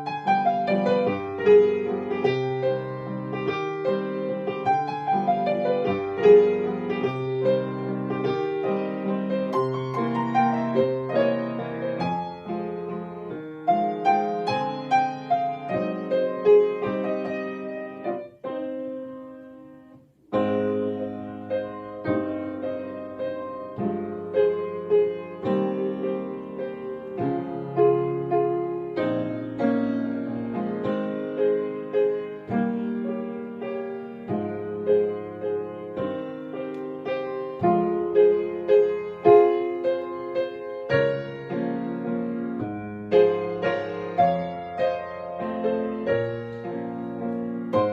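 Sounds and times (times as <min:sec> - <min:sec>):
solo piano waltz: 0:00.0 - 0:47.9.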